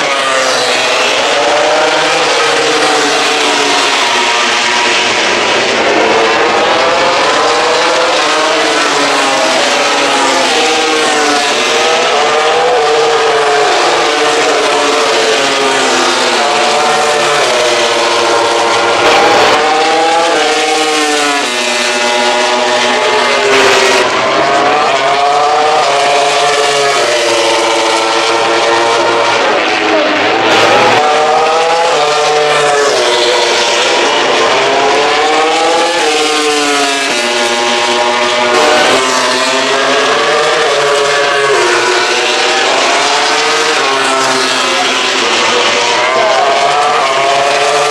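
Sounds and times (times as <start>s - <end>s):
racing motorcycle engines accelerating: 0.0s - 47.9s.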